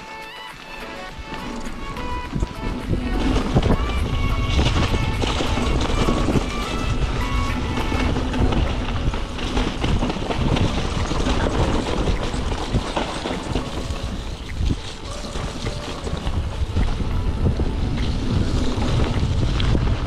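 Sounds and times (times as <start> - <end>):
bike rumbling and rattling: 0.5 - 20.0
wind buffeting microphone: 1.1 - 20.0.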